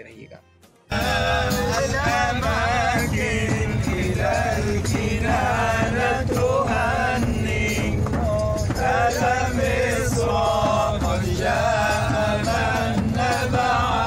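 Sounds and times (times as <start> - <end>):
bus rumble: 0.9 - 14.0
frame drum beats: 0.9 - 14.0
men chanting together: 0.9 - 14.0.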